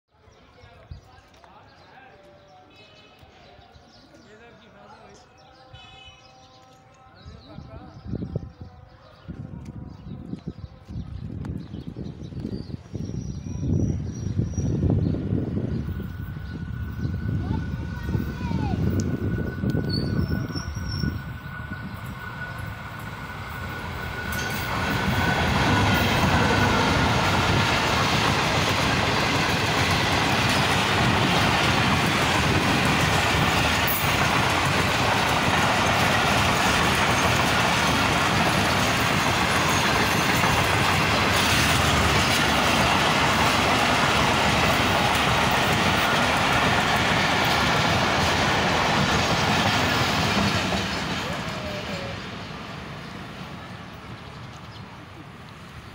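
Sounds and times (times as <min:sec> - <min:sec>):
train passing at high speed: 0:09.3 - 0:55.9.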